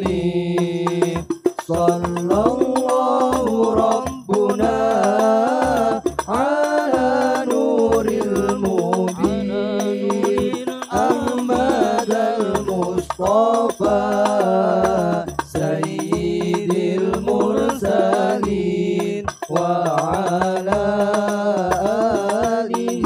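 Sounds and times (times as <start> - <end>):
frame drums beating: 0.0 - 23.0
men singing in unison: 0.0 - 23.0.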